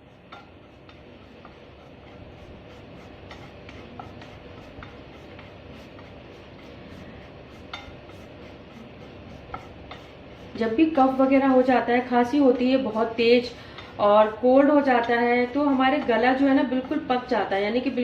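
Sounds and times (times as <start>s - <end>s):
flour sizzling in pan: 0.0s - 18.0s.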